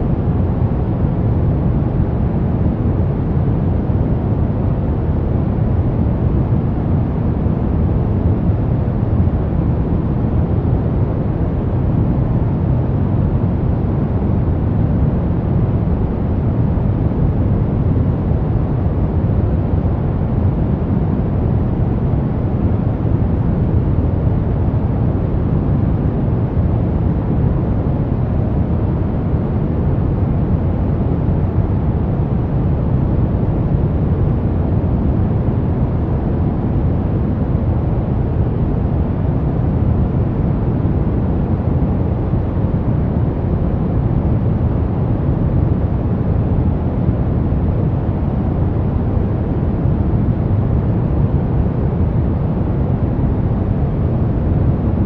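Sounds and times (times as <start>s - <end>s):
brown noise rumbling hiss: 0.0s - 55.0s.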